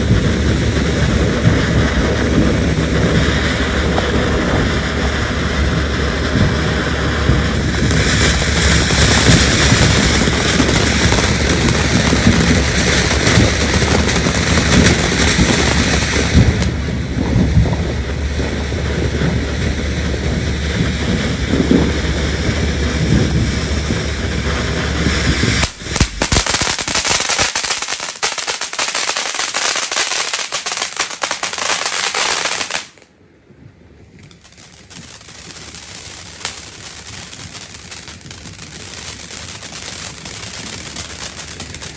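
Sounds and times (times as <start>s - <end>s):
firecracker pops: 0.0s - 33.1s, 34.1s - 41.9s
fireworks crackling hiss: 0.0s - 33.1s, 34.1s - 41.9s.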